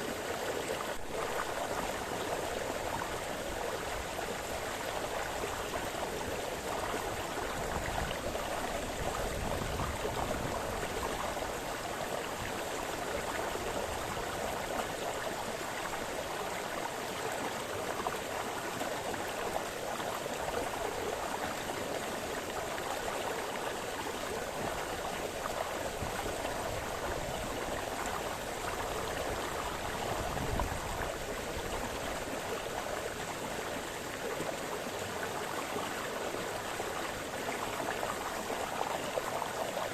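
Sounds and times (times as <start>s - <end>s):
brook gurgling over stones: 0.0s - 39.9s.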